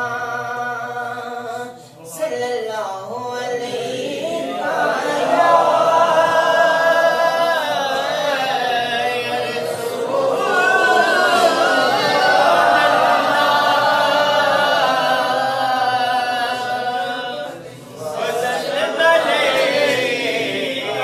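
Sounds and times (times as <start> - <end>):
man singing unaccompanied: 0.0 - 19.6.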